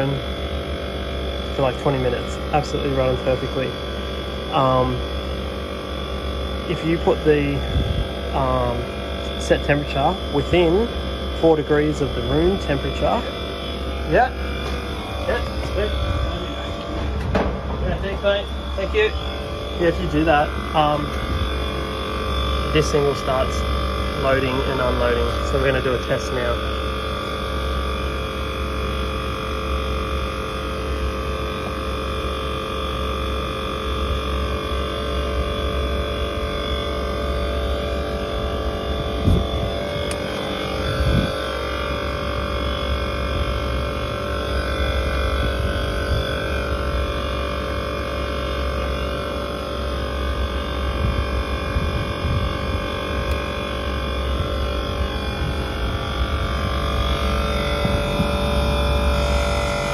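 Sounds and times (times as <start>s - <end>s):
air conditioner compressor hum: 0.0s - 59.9s.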